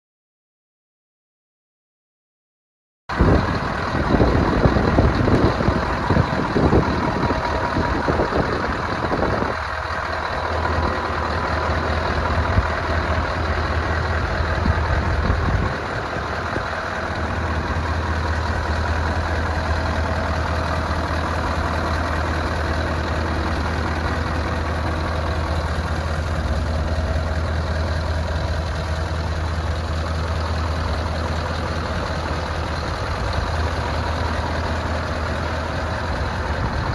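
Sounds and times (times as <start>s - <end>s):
diesel truck engine idling: 3.1s - 36.9s.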